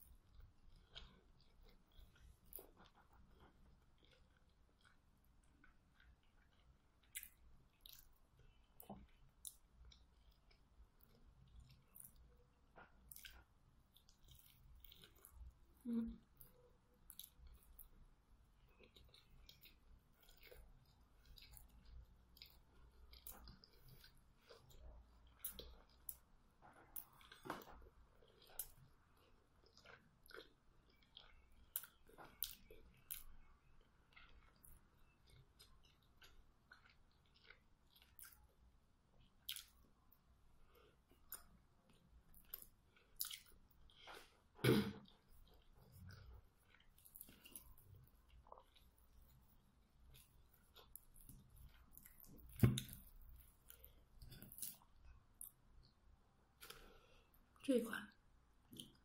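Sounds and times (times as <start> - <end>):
chewing food: 0.0 - 59.0.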